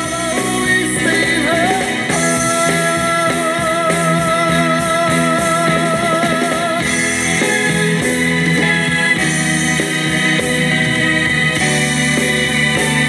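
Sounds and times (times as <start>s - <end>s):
doo-wop ballad band: 0.0s - 13.0s.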